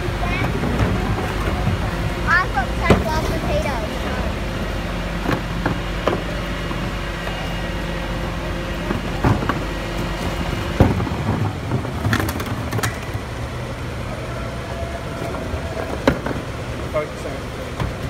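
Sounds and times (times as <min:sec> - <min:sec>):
garbage truck idling: 0:00.0 - 0:18.0
wheelie bins clattering: 0:00.0 - 0:18.0.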